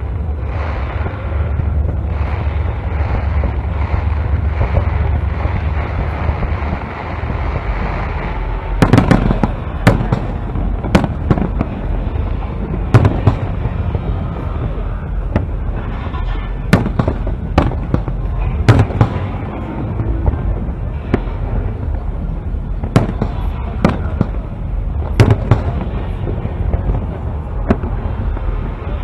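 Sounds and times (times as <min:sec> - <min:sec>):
fireworks bursting with sharp bangs: 0:00.0 - 0:29.0
low rumble: 0:00.0 - 0:29.0.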